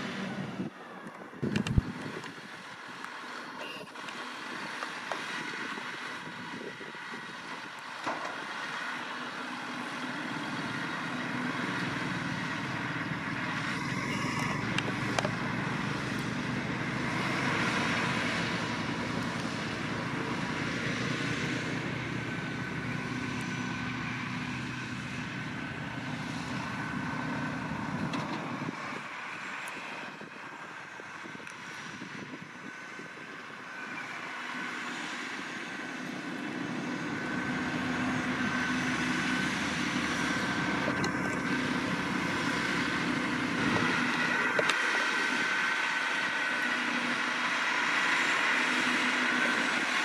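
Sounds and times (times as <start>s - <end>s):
round baler working: 0.0s - 50.0s
tractor engine under load: 0.0s - 50.0s.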